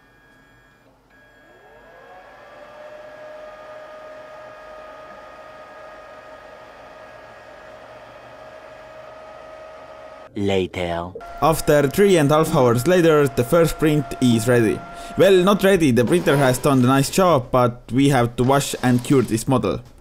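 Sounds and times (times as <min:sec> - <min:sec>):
printer whine climbing in pitch: 0:00.0 - 0:10.3, 0:11.2 - 0:17.2.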